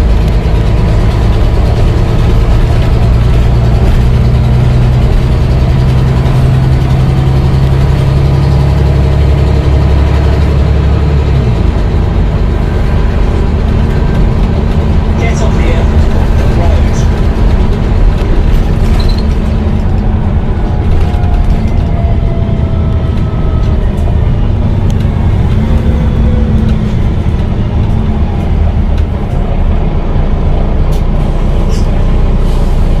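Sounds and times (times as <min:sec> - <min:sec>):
bus diesel engine drone: 0:00.0 - 0:33.0.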